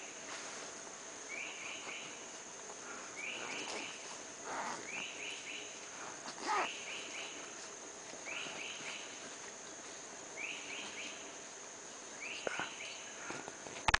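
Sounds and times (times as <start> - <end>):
high-pitched insect drone: 0.0 - 13.6.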